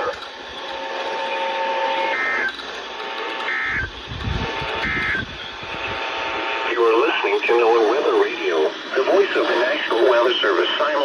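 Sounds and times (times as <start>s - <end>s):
radio hiss: 1.1s - 2.5s, 3.4s - 11.0s.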